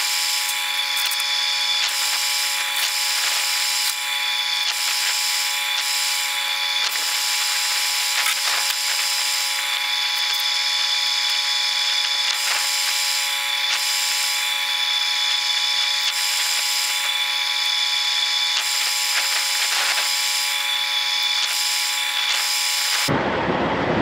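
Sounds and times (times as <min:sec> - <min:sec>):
machine whine: 0:00.0 - 0:24.0.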